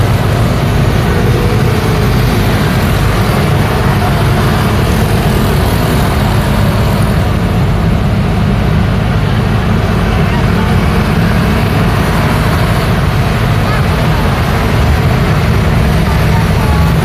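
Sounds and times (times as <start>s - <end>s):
scooters and cars passing: 0.0s - 17.0s.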